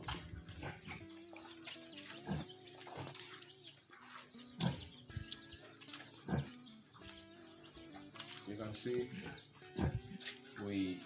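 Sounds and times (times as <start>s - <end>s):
chickens clucking and chirping: 0.0s - 11.0s
pigs grunting: 0.0s - 11.0s.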